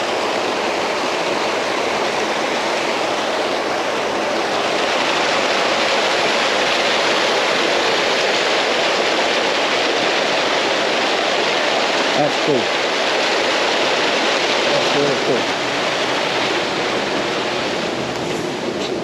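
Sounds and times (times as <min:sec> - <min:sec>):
water rushing down channel: 0:00.0 - 0:19.0.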